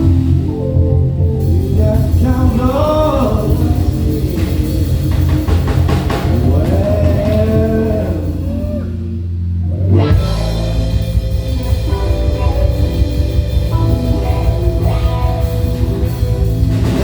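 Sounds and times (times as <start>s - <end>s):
held bass note: 0.0s - 17.0s
live band playing: 0.0s - 17.0s.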